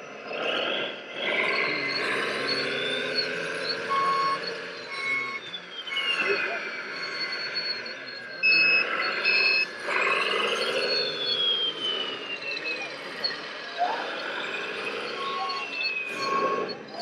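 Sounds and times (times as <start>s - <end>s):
motor whine: 0.0s - 17.0s
reversing beeps: 0.0s - 17.0s.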